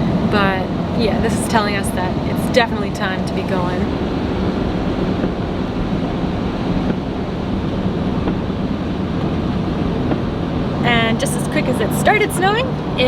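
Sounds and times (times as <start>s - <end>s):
van driving on highway: 0.0s - 13.0s.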